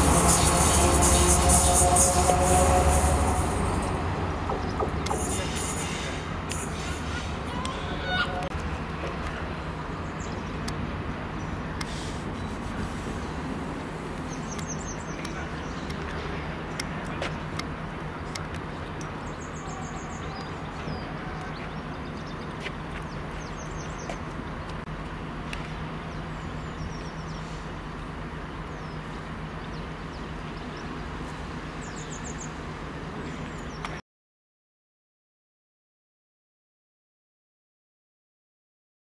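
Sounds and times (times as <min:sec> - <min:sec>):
diesel locomotive engine hum: 0:00.0 - 0:34.0.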